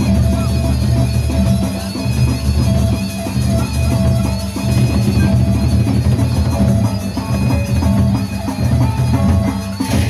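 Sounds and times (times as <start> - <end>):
barrel drums beaten: 0.0 - 10.0
gongs ringing: 0.0 - 10.0.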